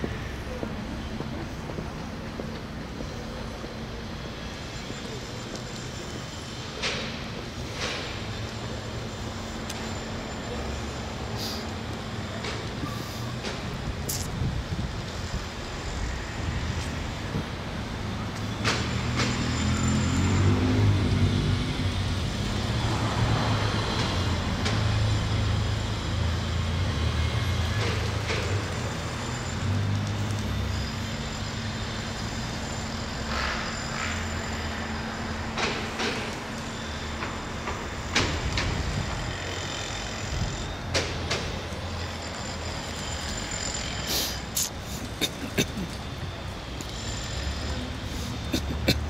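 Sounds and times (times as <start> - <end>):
large engine humming: 0.0 - 49.0.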